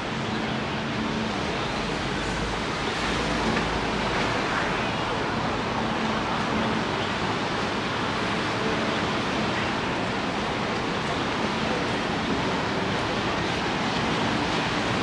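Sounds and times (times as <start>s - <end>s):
distant surf: 0.0s - 15.0s
wind: 0.0s - 15.0s.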